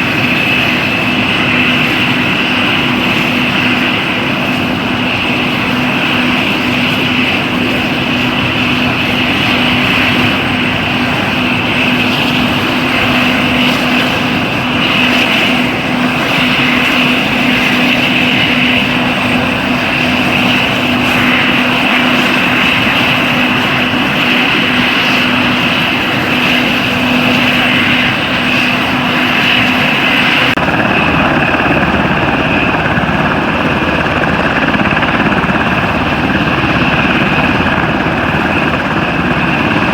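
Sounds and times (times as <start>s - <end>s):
helicopter rotor noise: 0.0s - 39.9s
turbine engine whine: 0.0s - 39.9s.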